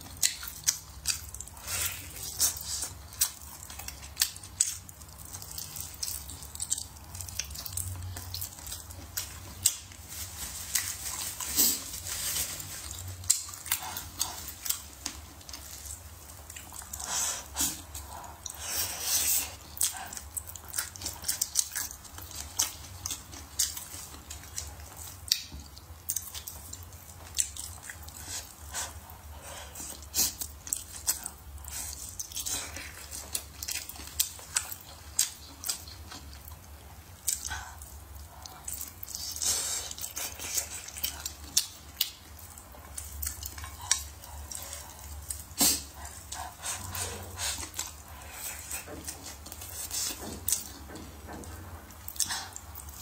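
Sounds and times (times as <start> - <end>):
chewing and biting food: 0.0 - 53.0.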